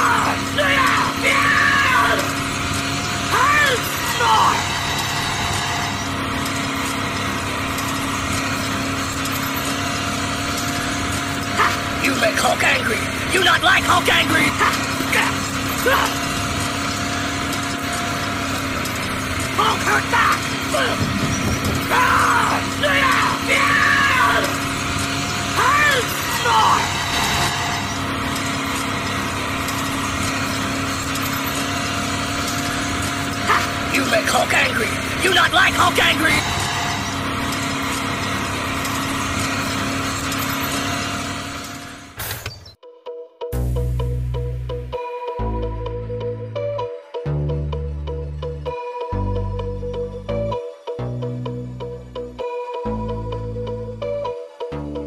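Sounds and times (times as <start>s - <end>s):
toy tractor motor humming: 0.0s - 42.7s, 48.2s - 55.0s.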